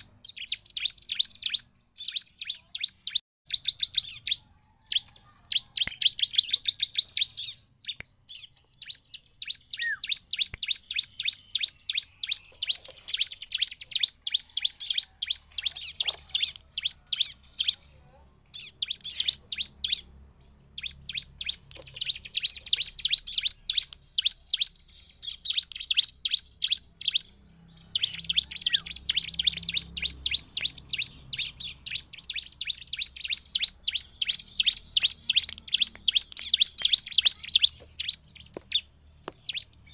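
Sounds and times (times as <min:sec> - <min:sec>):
bird singing rapid chipping notes: 0:00.0 - 0:39.9.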